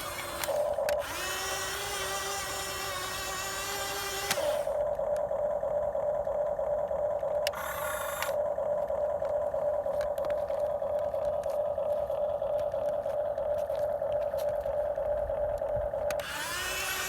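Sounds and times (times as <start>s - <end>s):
higher motor sound: 0.0s - 17.0s
small electric motor whine: 0.0s - 17.0s.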